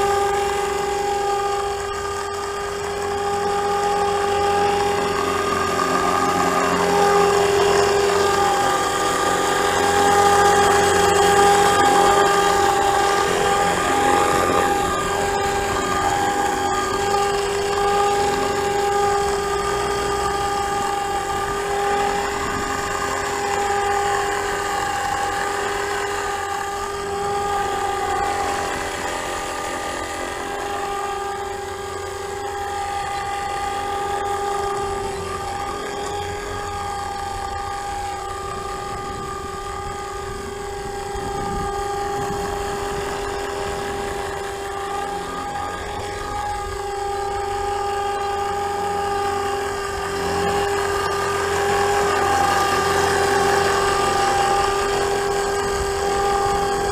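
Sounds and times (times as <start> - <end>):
rc helicopter whine: 0.0 - 56.9.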